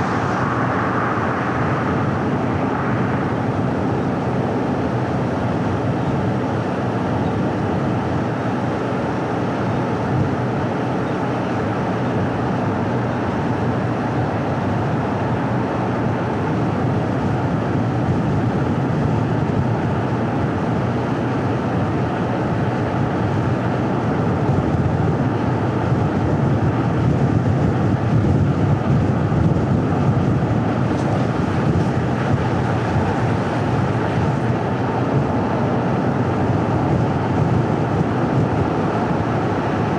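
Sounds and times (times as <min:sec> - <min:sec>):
low engine hum: 0:00.0 - 0:39.9
tyres rolling on asphalt: 0:00.0 - 0:39.9.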